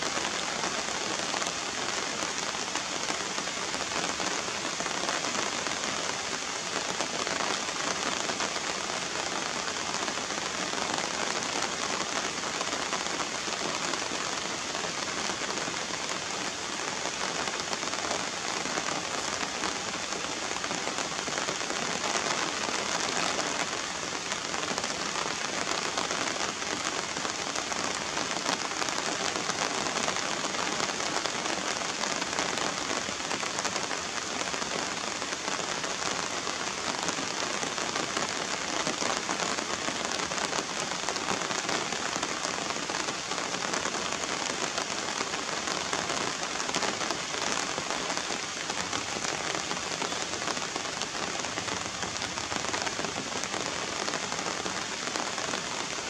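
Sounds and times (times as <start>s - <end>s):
rain splashing on puddles: 0.0s - 56.0s.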